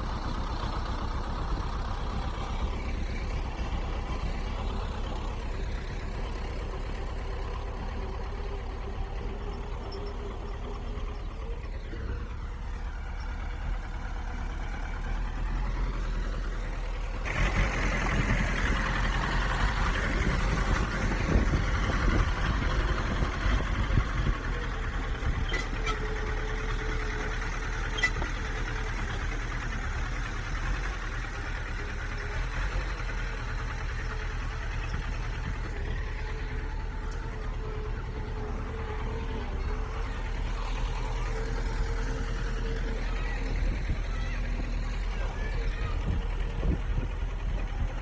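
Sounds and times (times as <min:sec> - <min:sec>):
bulldozer diesel engine running: 0:00.0 - 0:48.0.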